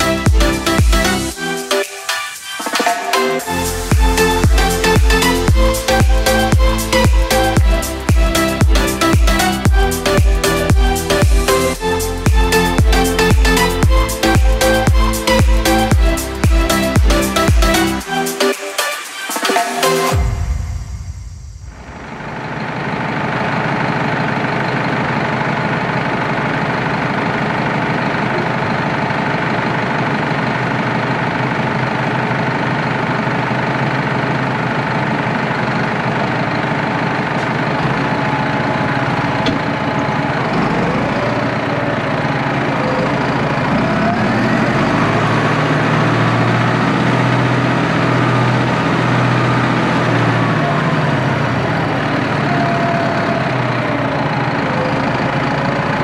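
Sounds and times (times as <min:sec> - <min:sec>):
tractor diesel engine running: 0:00.0 - 0:18.5, 0:20.0 - 0:56.0.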